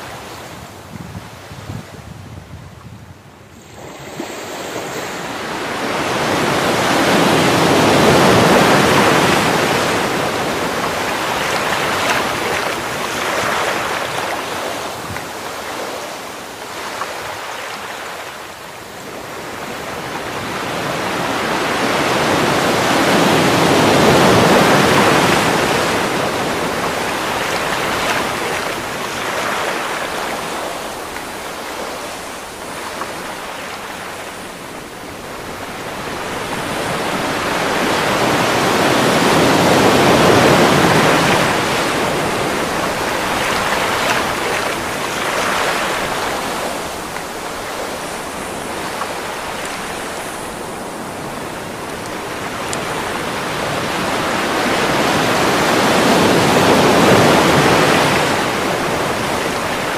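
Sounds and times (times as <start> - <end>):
waves breaking on pebble shore: 3.6 - 18.4, 19.0 - 59.9.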